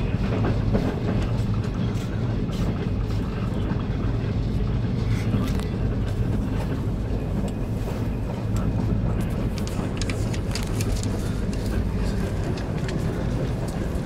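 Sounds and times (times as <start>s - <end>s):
passenger train rumbling on track: 0.0s - 14.0s.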